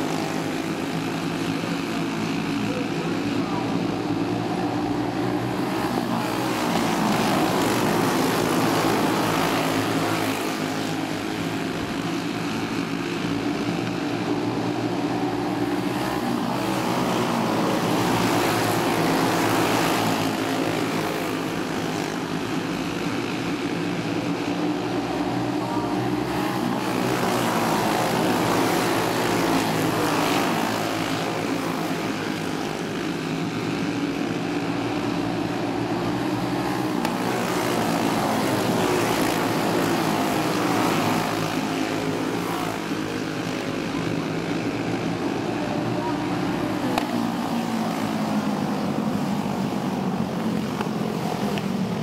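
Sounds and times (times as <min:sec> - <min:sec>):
racing kart engines: 0:00.0 - 0:52.0.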